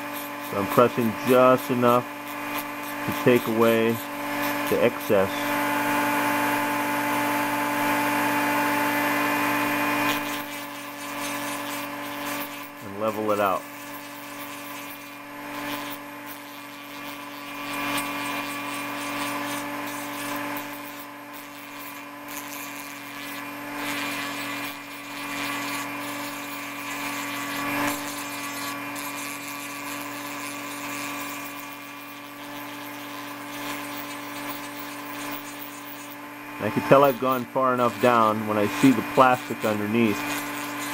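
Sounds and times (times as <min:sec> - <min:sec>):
rotary tool whining: 0:00.0 - 0:40.9
sanding drum rasping plastic: 0:00.0 - 0:40.9.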